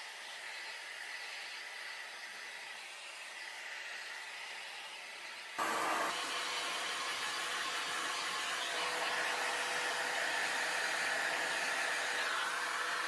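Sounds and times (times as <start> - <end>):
hair dryer blowing air: 0.0 - 13.0.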